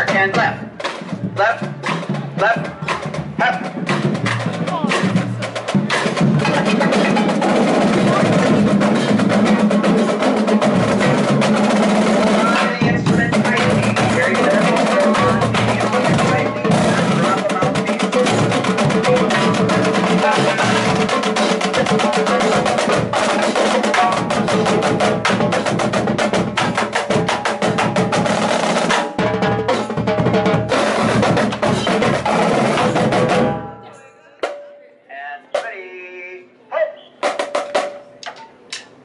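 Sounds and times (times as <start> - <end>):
voices: 0.0 - 27.2, 30.7 - 37.4
snare and bass drums playing: 0.0 - 33.8, 37.2 - 38.3.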